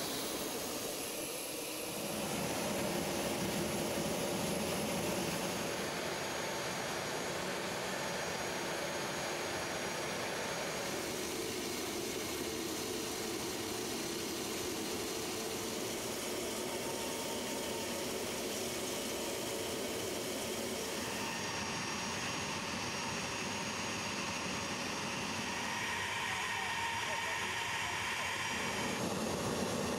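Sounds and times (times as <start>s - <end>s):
jet engines whining: 0.0s - 29.9s.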